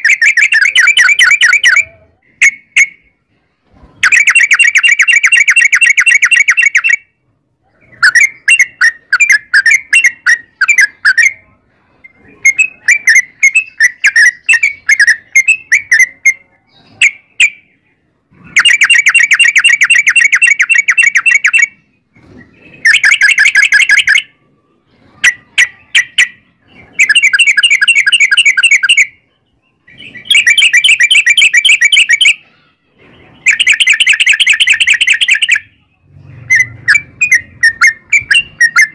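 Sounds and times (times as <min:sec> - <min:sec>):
bird chattering song: 0:00.0 - 0:03.2, 0:04.0 - 0:38.9.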